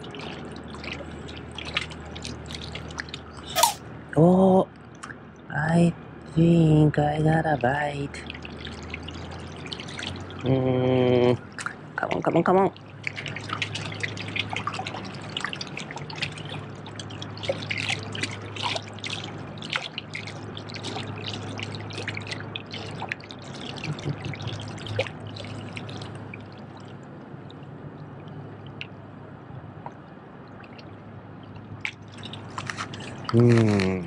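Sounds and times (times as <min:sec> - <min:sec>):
water splashes: 0:00.0 - 0:03.8, 0:07.3 - 0:29.0, 0:29.6 - 0:34.0.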